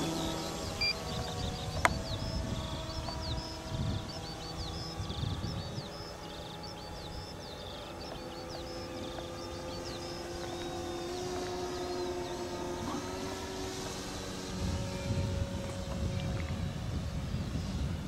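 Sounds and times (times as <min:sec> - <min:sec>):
distant model plane motor drone: 0:00.0 - 0:18.0
songbird singing: 0:00.0 - 0:18.0
wind rumbling on microphone: 0:00.0 - 0:18.0.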